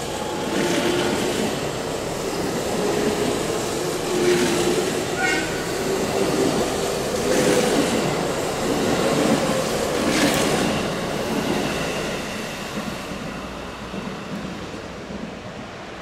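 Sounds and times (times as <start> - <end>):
train clanks: 0.0 - 15.7
train wheels rumbling and clattering: 0.0 - 16.0.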